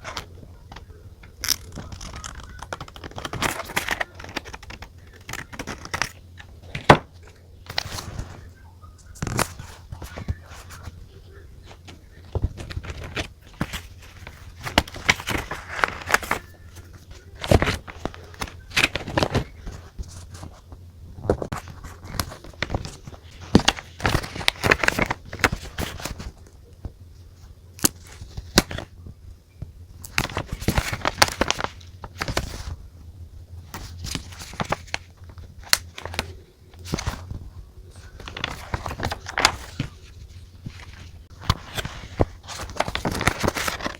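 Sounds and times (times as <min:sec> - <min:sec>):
paper crinkling and rustling: 0:00.0 - 0:43.9.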